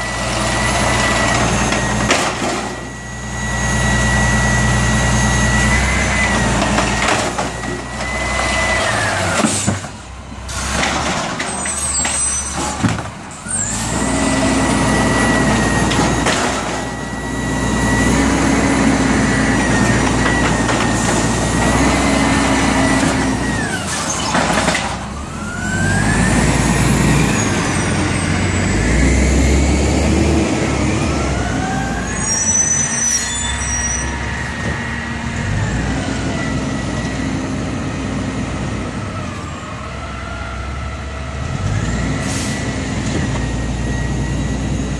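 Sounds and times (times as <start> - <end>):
garbage truck diesel engine revving: 0.0 - 44.9
hydraulic whine: 0.0 - 44.9.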